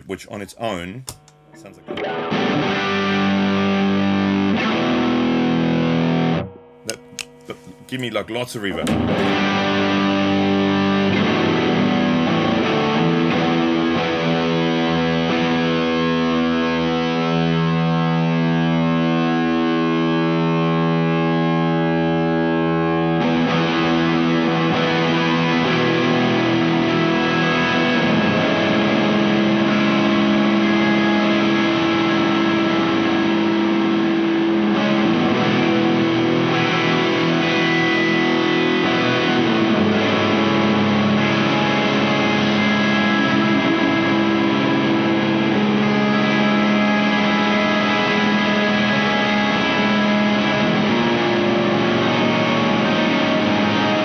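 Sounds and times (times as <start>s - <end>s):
distorted electric guitar with reverb: 1.1s - 7.9s, 8.7s - 54.0s.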